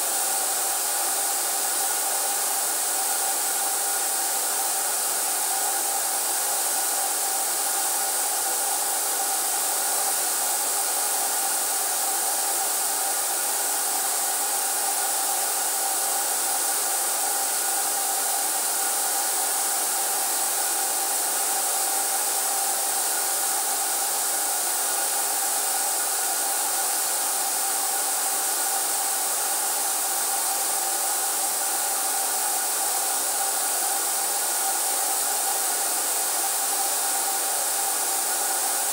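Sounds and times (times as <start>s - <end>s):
air hissing through spray gun: 0.0s - 38.9s
paint sprayer turbine whirring: 0.0s - 38.9s.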